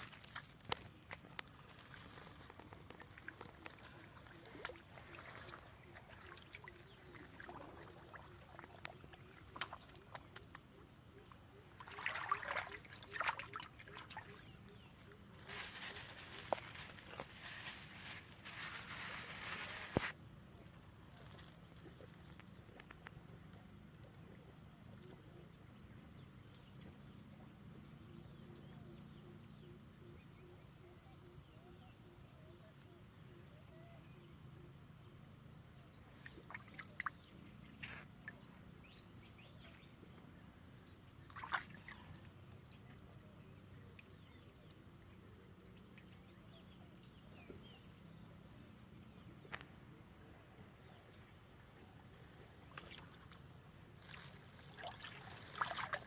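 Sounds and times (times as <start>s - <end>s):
faint outdoor background hum: 0.0s - 56.0s.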